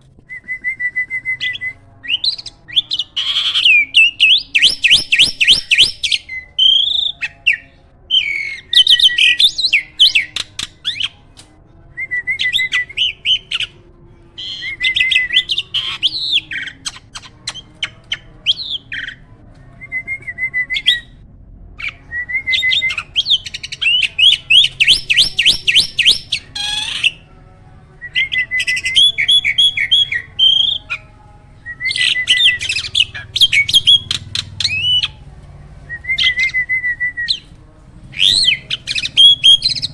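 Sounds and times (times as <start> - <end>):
starling chattering song: 1.2 - 11.2, 14.4 - 19.2, 21.8 - 27.3, 28.0 - 39.9.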